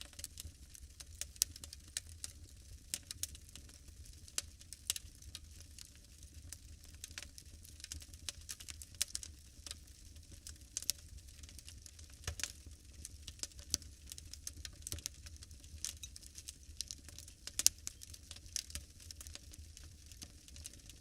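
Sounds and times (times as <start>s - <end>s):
wood fire snapping and popping: 0.0s - 21.0s.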